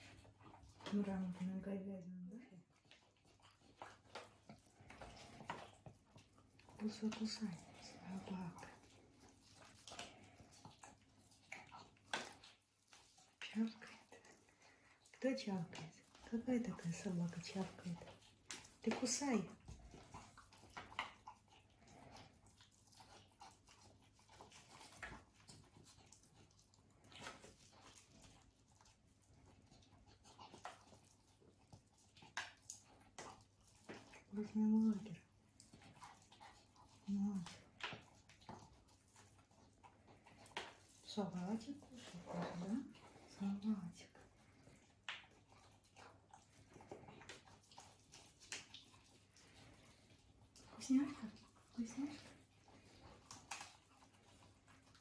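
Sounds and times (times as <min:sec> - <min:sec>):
puppy chewing noisily: 0:00.0 - 0:55.0.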